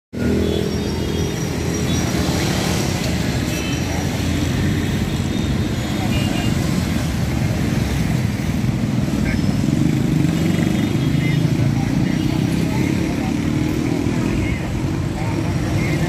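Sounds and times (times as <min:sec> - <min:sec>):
street traffic engine rumble: 0:00.1 - 0:16.0.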